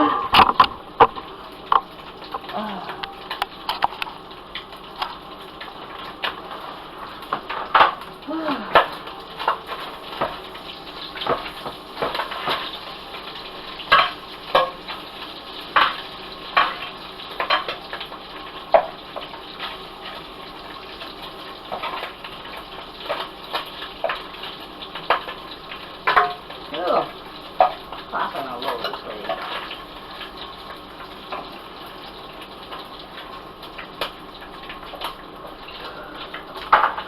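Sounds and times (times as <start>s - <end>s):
food sizzling in hot oil: 0.0s - 37.0s
grease popping: 0.0s - 37.0s.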